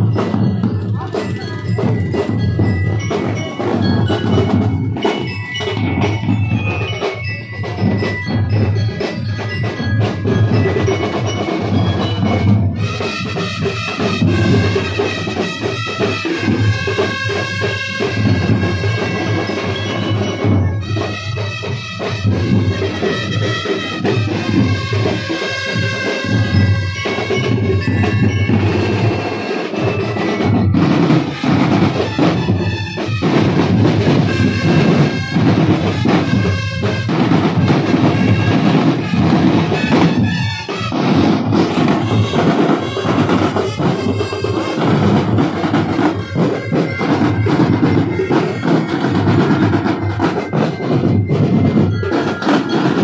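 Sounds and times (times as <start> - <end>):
drum corps cadence: 0.0 - 53.0
pitched melody: 0.0 - 53.0.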